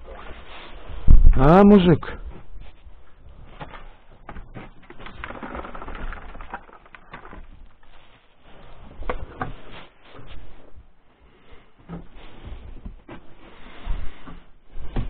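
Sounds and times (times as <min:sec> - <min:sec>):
rustling of things handled: 0:02.2 - 0:15.0.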